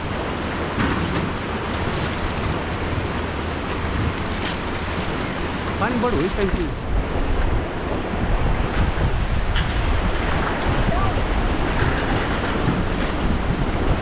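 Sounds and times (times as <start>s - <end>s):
rushing river water: 0.0s - 14.0s
wind buffeting microphone: 0.0s - 14.0s.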